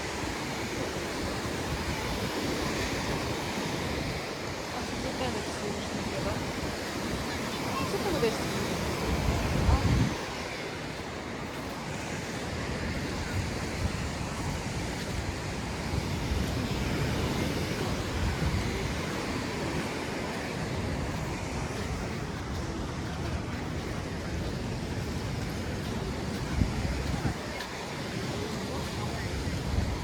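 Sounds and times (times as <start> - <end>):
waves washing onto beach: 0.0 - 30.0.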